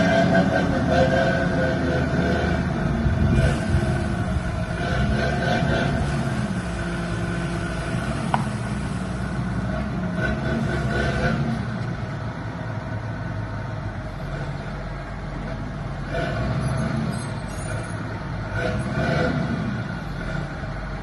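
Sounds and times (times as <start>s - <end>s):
dump truck diesel engine running: 0.0s - 21.0s.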